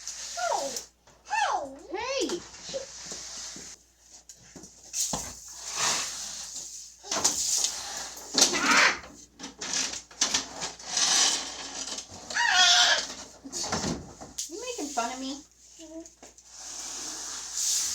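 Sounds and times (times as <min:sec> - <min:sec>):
household items scraping and rustling: 0:00.0 - 0:17.9.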